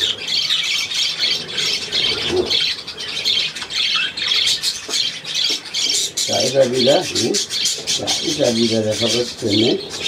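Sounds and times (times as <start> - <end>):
budgerigars chattering: 0.0 - 10.0.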